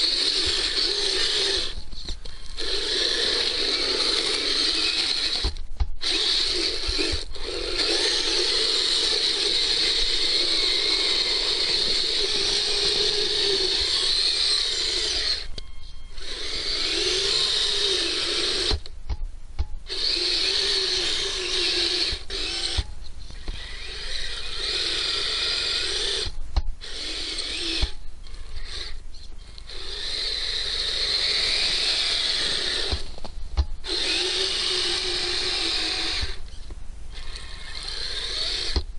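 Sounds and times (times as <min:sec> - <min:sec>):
electric motor whining: 0:00.0 - 0:18.9, 0:19.9 - 0:33.2, 0:33.8 - 0:38.9.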